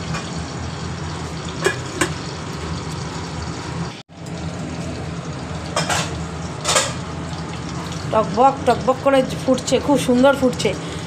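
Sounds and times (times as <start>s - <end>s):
pot bubbling on gas stove: 0.0s - 11.0s.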